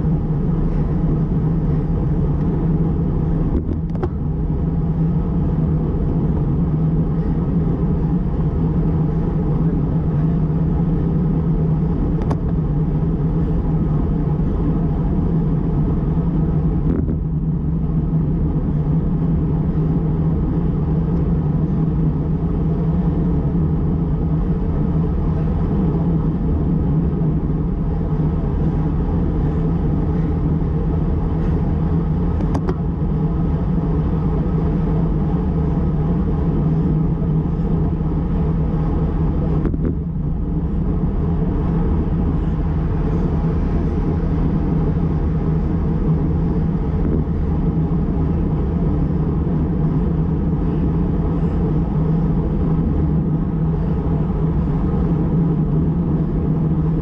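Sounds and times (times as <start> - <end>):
wind rush: 0.0 - 57.0.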